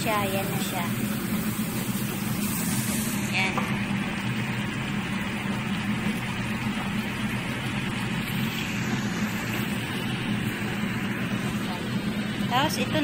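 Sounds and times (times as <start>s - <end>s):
fish sizzling in hot oil: 0.0s - 13.0s
steady low hum: 0.0s - 13.0s.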